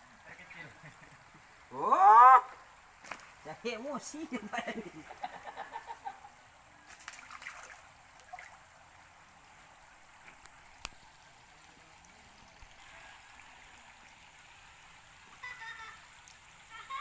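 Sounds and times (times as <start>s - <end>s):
faint trickle of running water: 0.0s - 17.0s.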